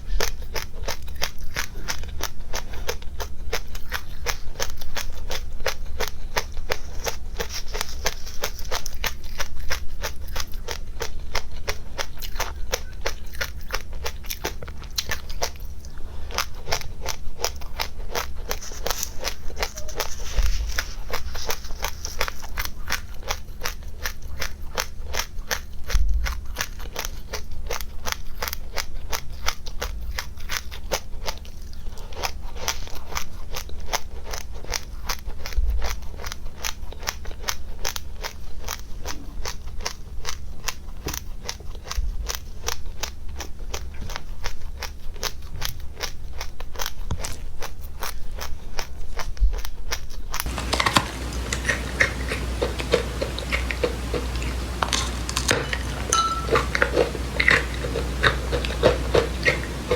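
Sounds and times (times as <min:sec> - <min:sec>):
crunchy chewing of seeds: 0:00.0 - 0:59.9.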